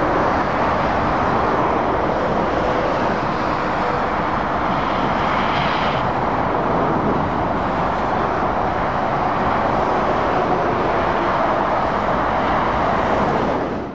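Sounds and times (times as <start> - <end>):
motorway traffic rushing: 0.0 - 13.9.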